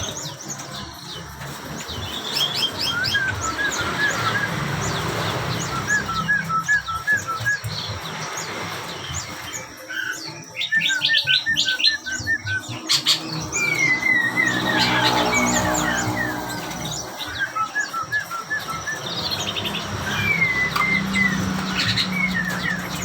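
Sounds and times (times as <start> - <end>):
bird trill: 0.0 - 23.0
songbird chirping: 0.0 - 23.0.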